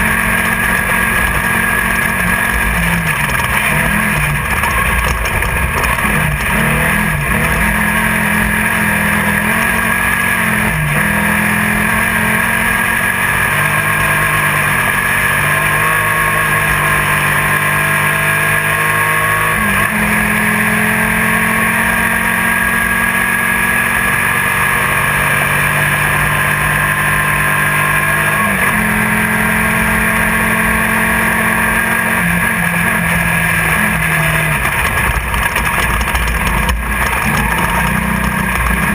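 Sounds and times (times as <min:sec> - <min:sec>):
engine running hard: 0:00.0 - 0:38.9.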